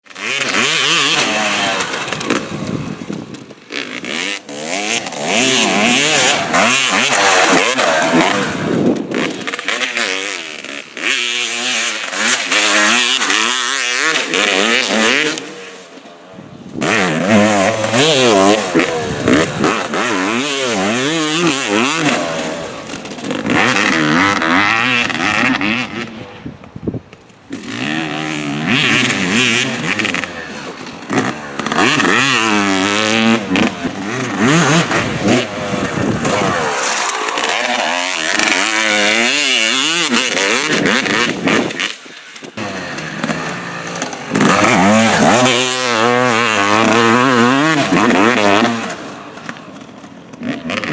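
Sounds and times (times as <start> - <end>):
motorcycle engine revving: 0.0 - 26.6, 27.4 - 50.9.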